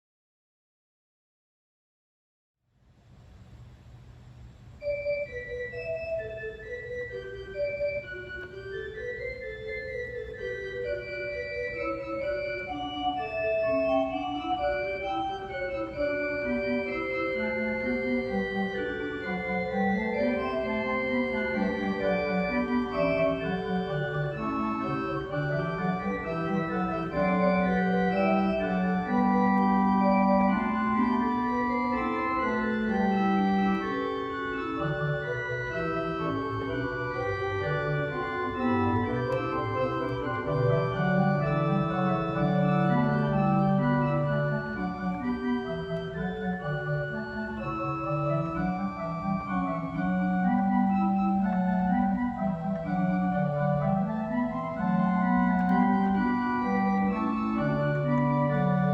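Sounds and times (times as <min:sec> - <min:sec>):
organ music: 0:04.4 - 0:58.9.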